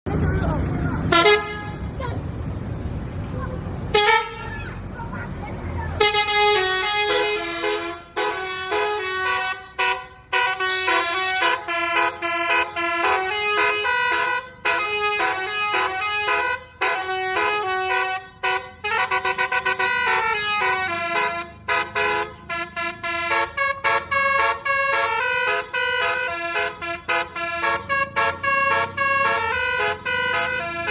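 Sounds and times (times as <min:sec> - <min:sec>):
multi-tone bus air horn melody: 0:01.0 - 0:02.0, 0:03.9 - 0:04.7, 0:06.0 - 0:30.9.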